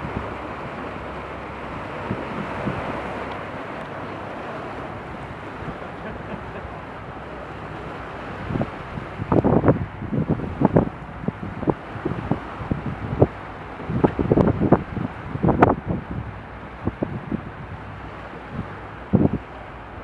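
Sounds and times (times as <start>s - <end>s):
boat and water noise: 0.0s - 20.0s
wind gusts buffeting microphone: 0.0s - 20.0s
wind rushing across microphone: 0.0s - 20.0s.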